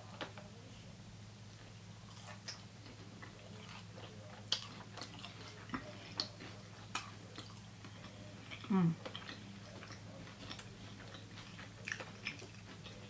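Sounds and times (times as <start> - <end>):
chewing crispy chicken: 1.6 - 13.0.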